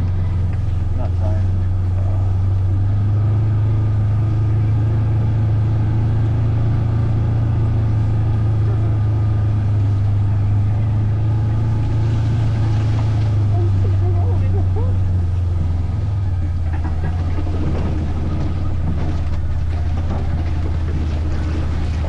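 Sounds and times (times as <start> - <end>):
vehicle engine droning: 0.0 - 22.0.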